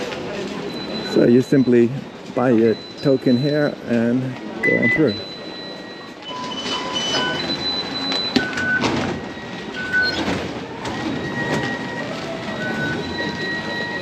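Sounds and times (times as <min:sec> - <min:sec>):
concourse hubbub: 0:00.0 - 0:14.0
fare gates beeping: 0:00.6 - 0:14.0
gates clacking: 0:00.6 - 0:14.0.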